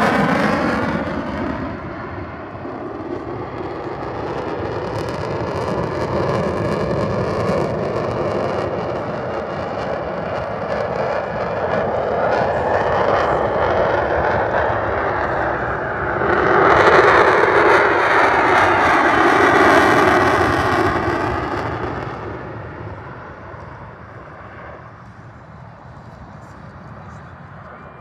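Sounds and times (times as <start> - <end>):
jet engines roaring flyby: 0.0 - 28.0.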